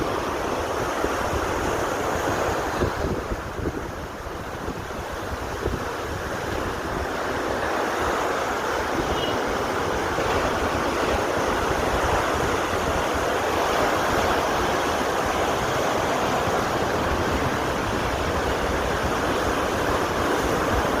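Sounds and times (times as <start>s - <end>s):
waves breaking on beach: 0.0s - 21.0s.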